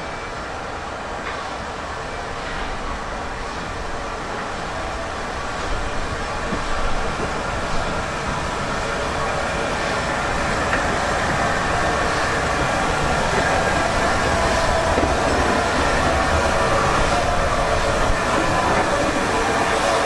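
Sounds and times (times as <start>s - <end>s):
train rolling along track: 0.0s - 20.0s.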